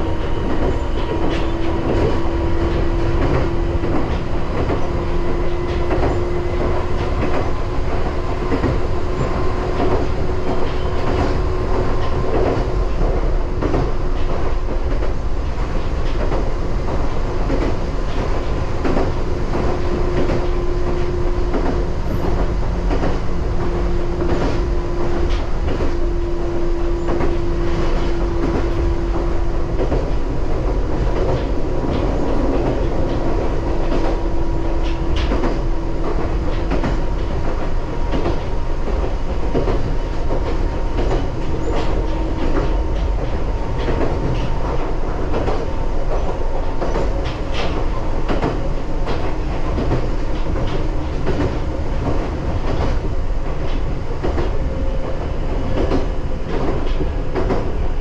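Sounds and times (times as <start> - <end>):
electric train rumble: 0.0 - 58.0
wheels clacking over rail joints: 0.0 - 58.0.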